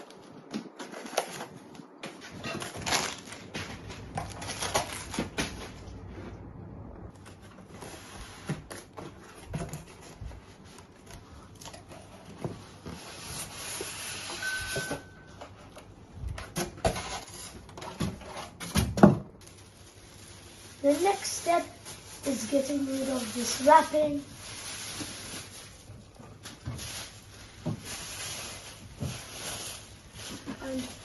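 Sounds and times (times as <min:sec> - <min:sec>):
packaging rustling and scraping: 0:00.0 - 0:06.1, 0:07.1 - 0:31.0.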